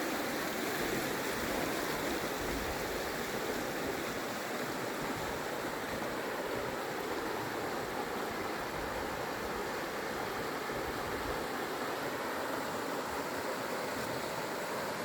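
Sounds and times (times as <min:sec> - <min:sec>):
rushing creek water: 0:00.0 - 0:15.0.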